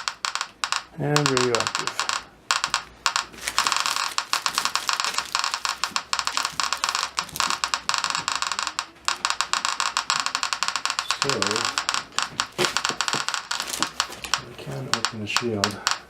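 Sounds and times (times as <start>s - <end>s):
geiger counter clicking: 0.0s - 16.0s.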